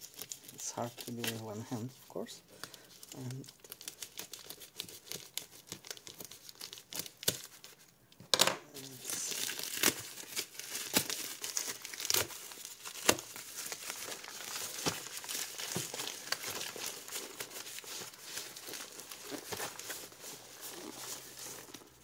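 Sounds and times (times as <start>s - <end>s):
plastic mailer crinkling and tearing: 0.0s - 7.9s, 8.8s - 22.0s.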